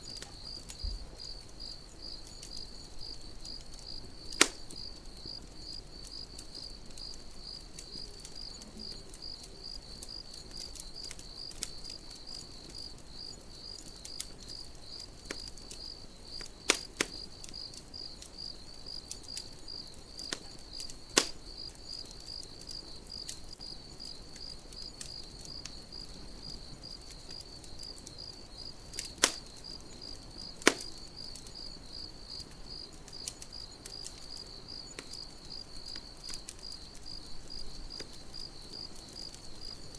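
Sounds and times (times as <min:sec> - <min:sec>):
burning wood popping: 0:00.0 - 0:39.9
campfire crackling: 0:00.0 - 0:39.9
crickets chirping: 0:00.0 - 0:39.9.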